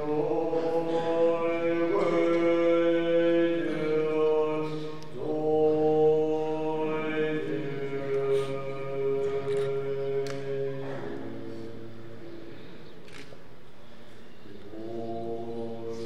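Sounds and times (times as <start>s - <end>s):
man chanting: 0.0s - 12.7s, 14.4s - 16.0s.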